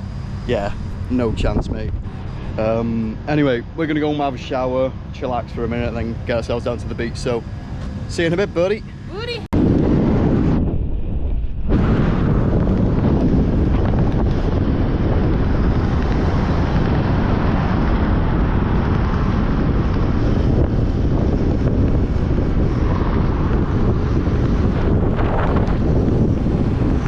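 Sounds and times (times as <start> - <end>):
deep rumble: 0.0 - 27.0
wind buffeting microphone: 0.0 - 27.0.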